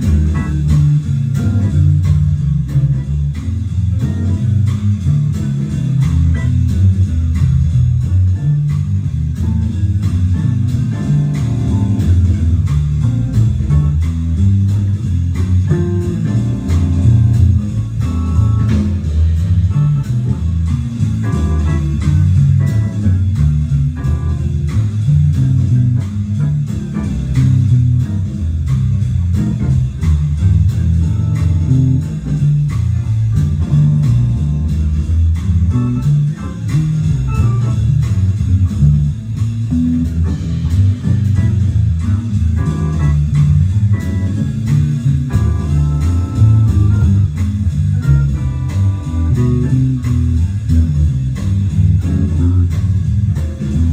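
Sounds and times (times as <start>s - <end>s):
bass guitar line: 0.0s - 53.9s
instrumental guitar music: 0.0s - 53.9s.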